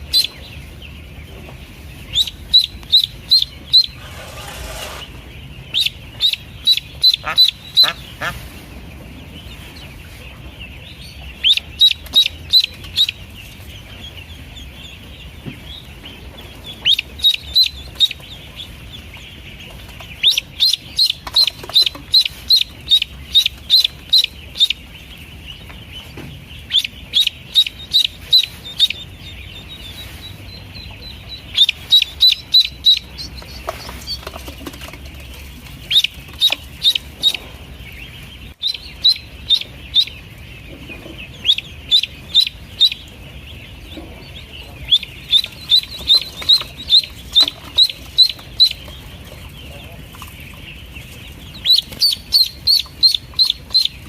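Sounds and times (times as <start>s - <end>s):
ducklings peeping: 0.0s - 54.0s.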